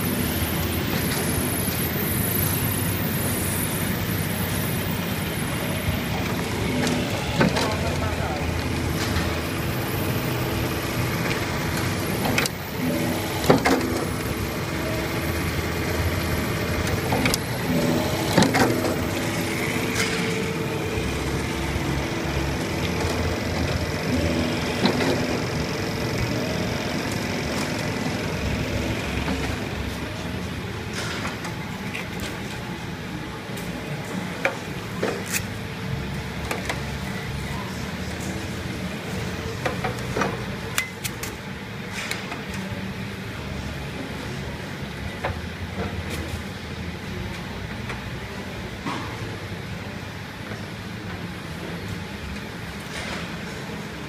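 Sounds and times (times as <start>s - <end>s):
machinery humming and rumbling: 0.0s - 54.0s.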